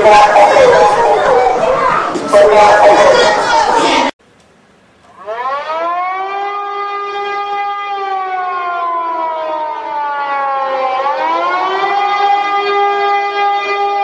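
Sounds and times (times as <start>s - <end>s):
air-raid siren wailing: 0.0s - 3.4s, 5.1s - 14.0s.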